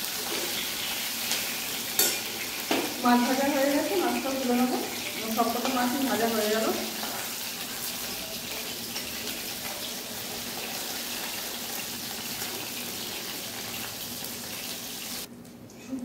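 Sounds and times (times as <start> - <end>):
hot oil sizzling: 0.0 - 15.3.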